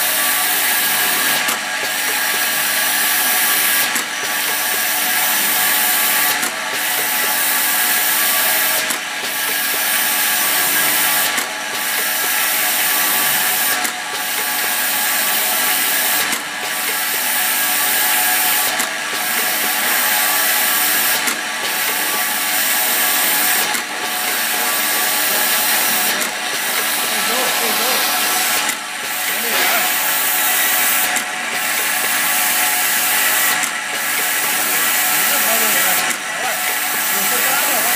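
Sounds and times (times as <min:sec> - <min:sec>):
filling machine whirring hiss: 0:00.0 - 0:37.9.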